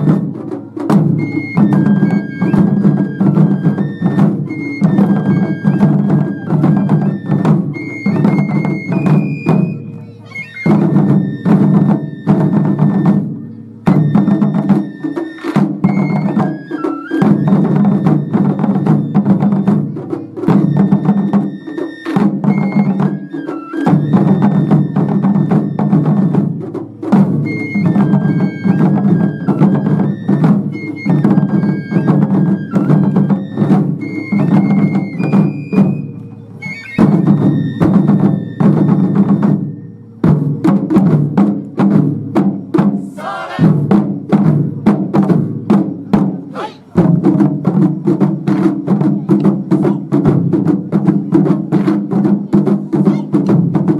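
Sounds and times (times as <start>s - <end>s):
taiko drums rolling: 0.0s - 53.9s.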